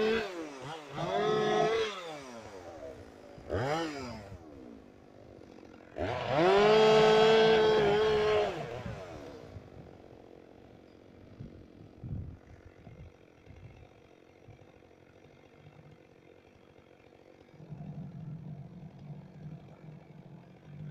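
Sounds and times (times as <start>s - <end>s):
chainsaw revving: 0.0s - 20.9s.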